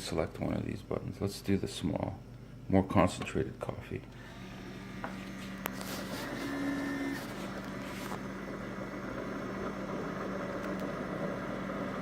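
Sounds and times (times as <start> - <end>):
coffee maker pump humming: 0.0 - 12.0.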